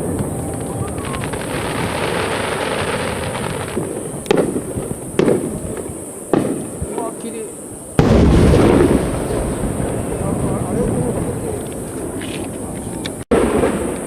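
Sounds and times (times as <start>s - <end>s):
crackling fireworks bursts: 0.0s - 14.0s
fireworks booms: 0.0s - 14.0s.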